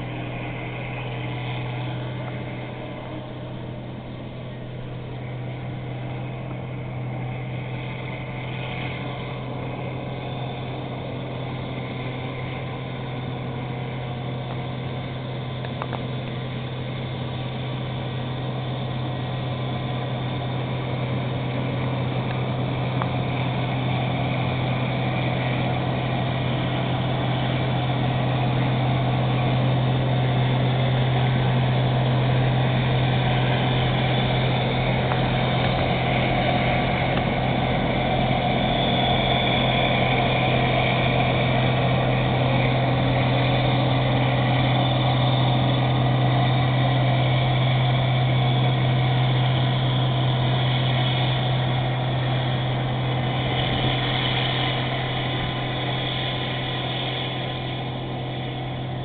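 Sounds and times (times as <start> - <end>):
combine harvester engine drone: 0.0 - 59.0
threshing machinery noise: 0.0 - 59.0.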